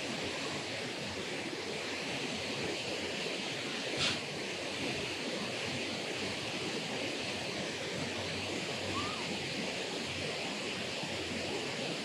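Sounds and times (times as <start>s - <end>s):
water rushing over dam spillway: 0.0s - 12.0s.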